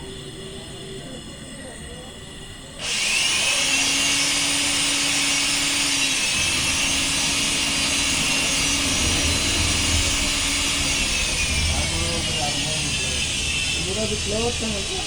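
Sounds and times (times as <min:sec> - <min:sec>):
pressurised gas hissing: 0:02.6 - 0:15.0.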